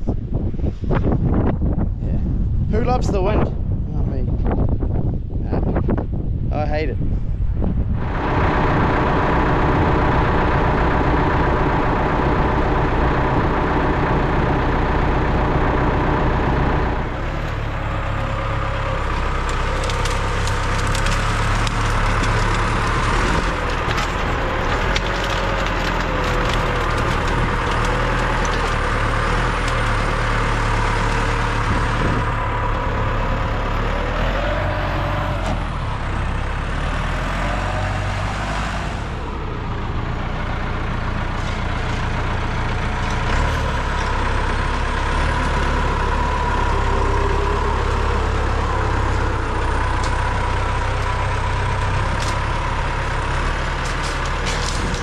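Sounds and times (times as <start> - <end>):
heavy engine running: 0.0 - 55.0
wood cracking and splintering: 8.1 - 39.4, 40.4 - 55.0.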